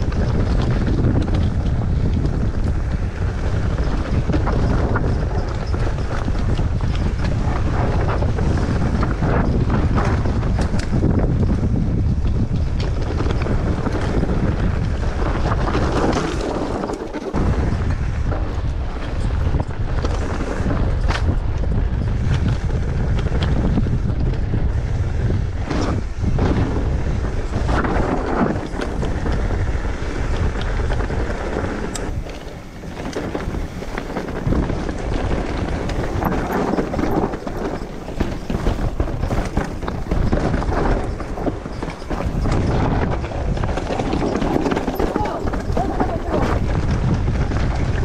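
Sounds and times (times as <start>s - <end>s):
bike knocking and rattling: 0.0s - 48.0s
wind buffeting microphone: 0.0s - 48.0s.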